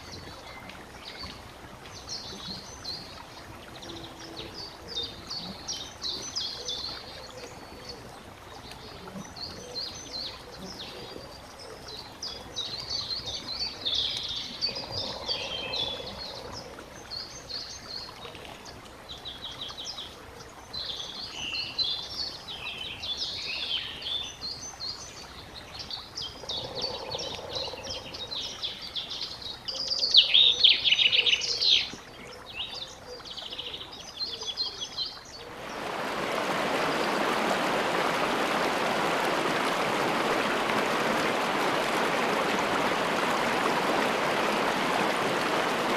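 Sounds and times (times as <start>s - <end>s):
songbirds singing and chirping: 0.0s - 37.6s
flowing water rushing: 0.0s - 45.9s.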